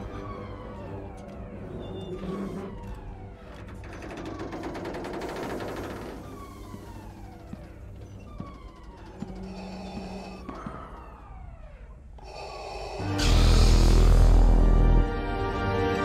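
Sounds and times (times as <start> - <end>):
falling-pitch alarm wail: 0.0 - 4.2, 5.1 - 15.7.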